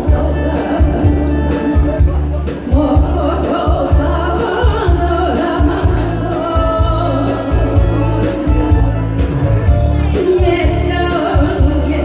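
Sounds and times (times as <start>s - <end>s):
backing track with bass beat: 0.0s - 12.0s.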